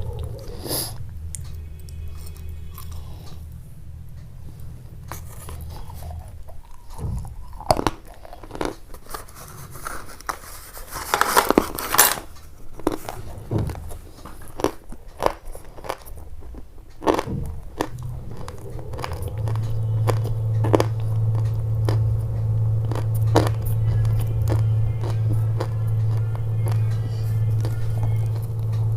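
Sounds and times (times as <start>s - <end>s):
sharp crunches and clicks: 0.0s - 28.9s
steady low hum: 0.0s - 28.9s.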